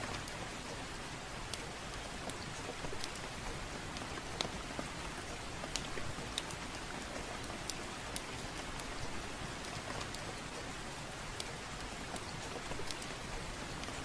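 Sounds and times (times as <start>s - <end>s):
steady rain hiss: 0.0s - 14.0s
wood fire crackling: 0.0s - 14.0s.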